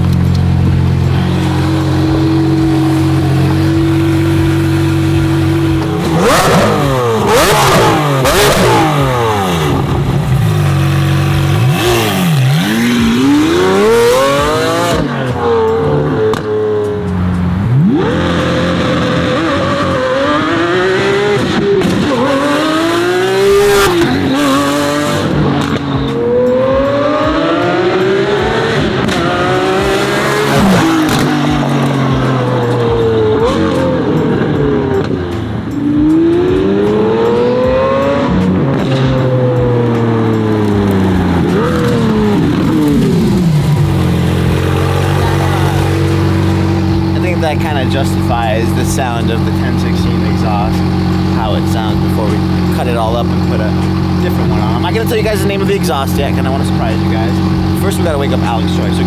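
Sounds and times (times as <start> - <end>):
sports car engine revving: 0.0 - 59.0.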